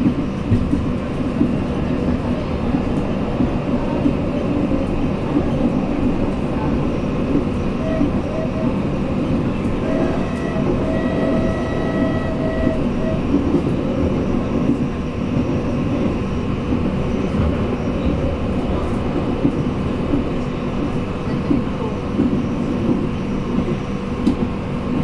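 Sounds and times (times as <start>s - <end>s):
electric train rumble: 0.0s - 25.0s.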